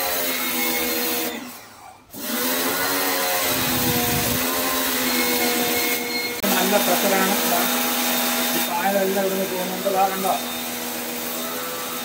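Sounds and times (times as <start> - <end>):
pressure washer motor humming: 0.0 - 12.0
water jet hissing on wall: 2.1 - 12.0.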